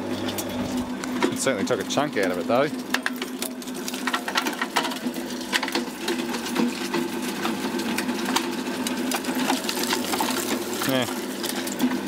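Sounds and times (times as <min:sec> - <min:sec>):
shredder motor hum: 0:00.0 - 0:12.0
material clattering in shredder: 0:00.2 - 0:12.0.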